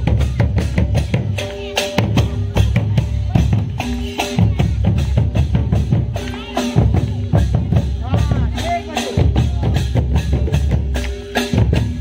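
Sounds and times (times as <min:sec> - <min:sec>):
dance music with drum beat: 0:00.0 - 0:12.0.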